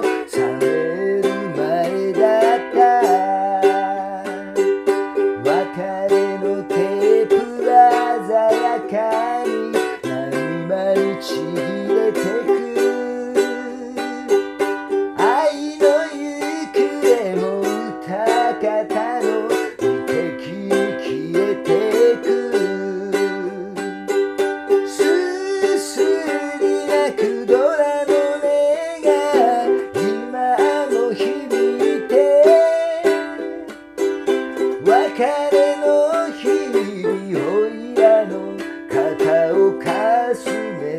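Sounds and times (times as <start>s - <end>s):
ukulele strummed and plucked: 0.0s - 40.9s.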